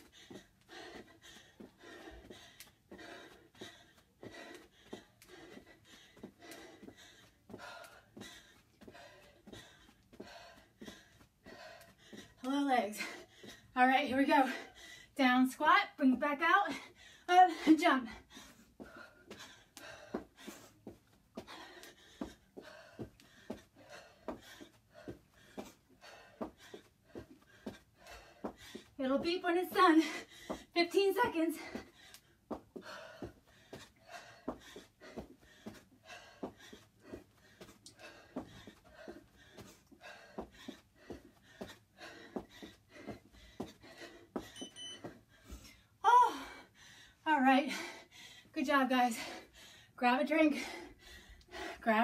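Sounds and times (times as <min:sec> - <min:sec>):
person panting: 0:00.0 - 0:13.8, 0:14.4 - 0:15.2, 0:16.6 - 0:52.0
woman breathing hard: 0:00.0 - 0:15.2, 0:16.7 - 0:52.0.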